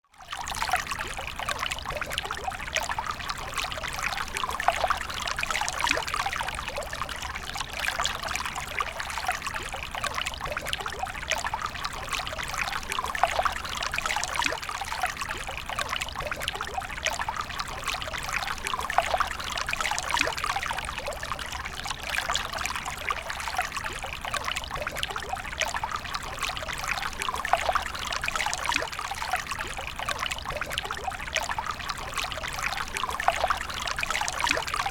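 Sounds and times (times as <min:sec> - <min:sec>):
water pouring and trickling: 0:00.1 - 0:34.9.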